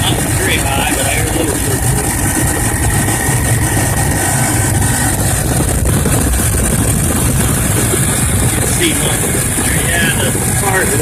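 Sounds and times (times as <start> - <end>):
air compressor running: 0.0 - 11.0
car engine idling: 0.0 - 11.0.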